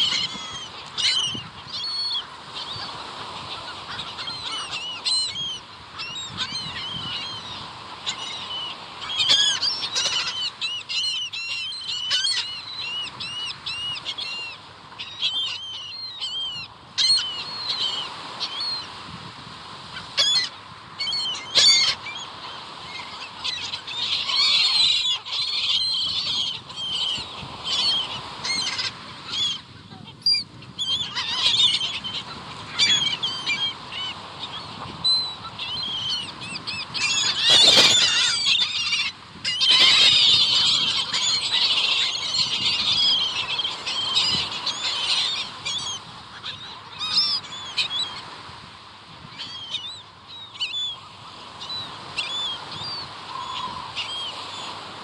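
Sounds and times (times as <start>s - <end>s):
seagulls squawking: 0.0s - 19.0s, 19.8s - 48.6s, 49.2s - 55.0s.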